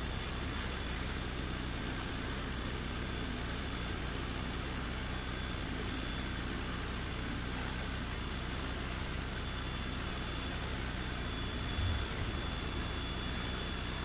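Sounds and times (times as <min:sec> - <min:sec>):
laser engraver fan whirring: 0:00.0 - 0:14.0
stepper motors moving: 0:00.0 - 0:14.0.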